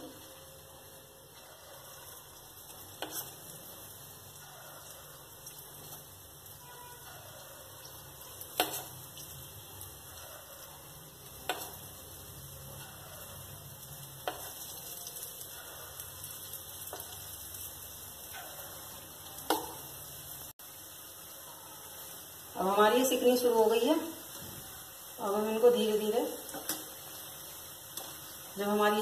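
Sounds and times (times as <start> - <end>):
batter sizzling in hot oil: 0.0 - 29.0.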